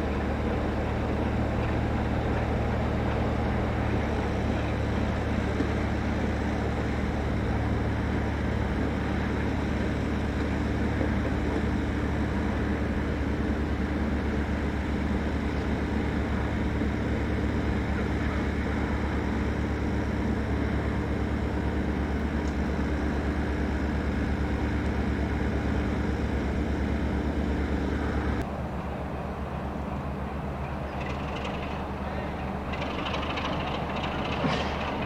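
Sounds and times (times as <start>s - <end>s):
diesel locomotive engine running: 0.0s - 35.0s.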